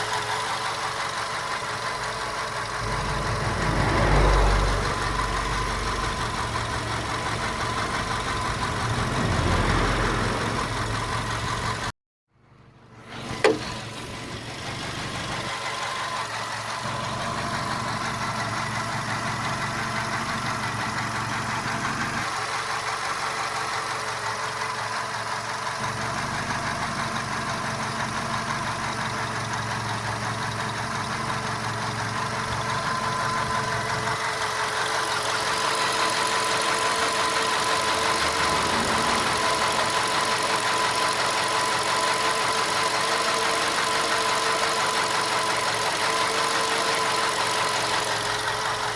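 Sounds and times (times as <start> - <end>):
engine knocking: 0.0 - 11.9, 13.0 - 48.9
car engine idling: 0.0 - 48.9.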